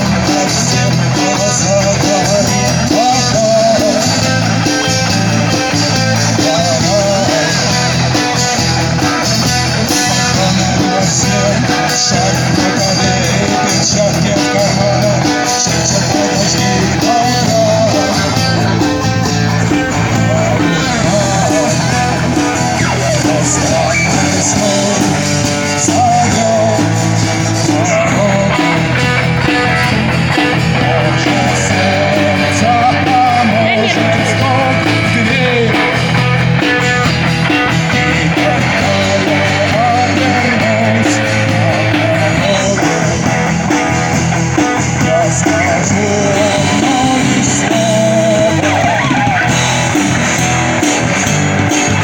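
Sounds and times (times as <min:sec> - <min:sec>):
guitar-led rock music: 0:00.0 - 0:52.0.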